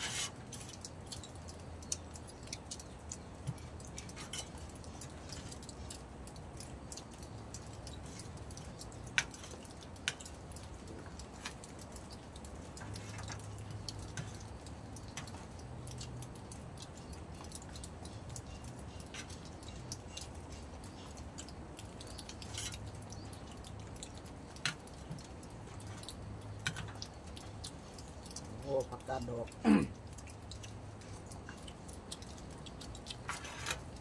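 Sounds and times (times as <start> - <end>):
chewing and slurping: 0.0 - 34.0.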